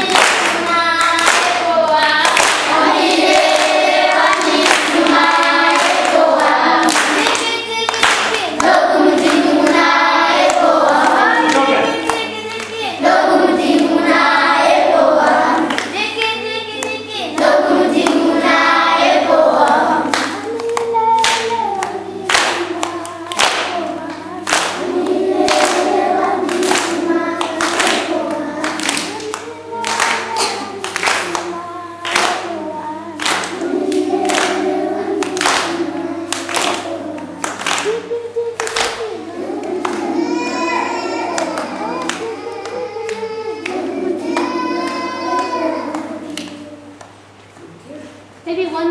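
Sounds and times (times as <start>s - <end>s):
children singing in chorus: 0.0s - 47.0s
rhythmic hand clapping: 0.0s - 47.2s.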